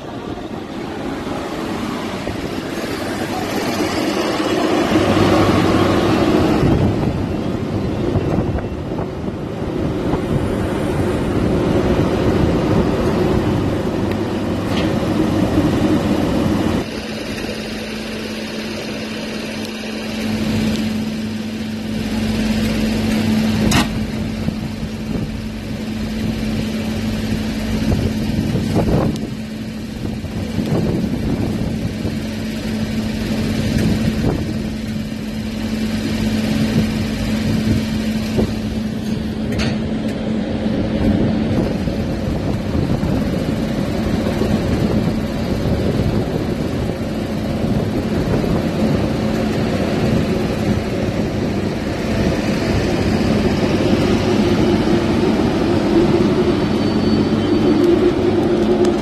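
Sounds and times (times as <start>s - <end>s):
loud rushing noise: 0.0s - 59.0s.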